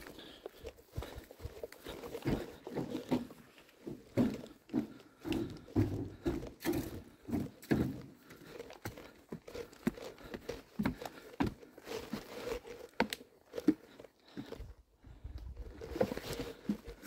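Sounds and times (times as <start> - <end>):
footsteps on wooden footbridge: 0.0 - 17.0.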